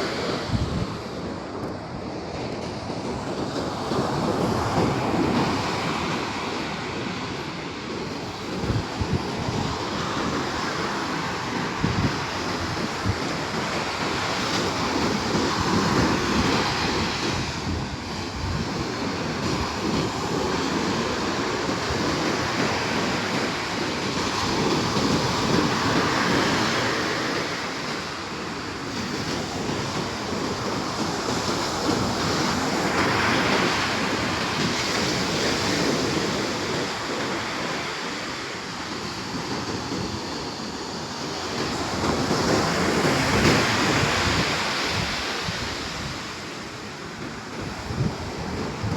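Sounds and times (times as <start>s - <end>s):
sea surf washing onto beach: 0.0s - 48.9s
wind buffeting microphone: 0.0s - 48.9s.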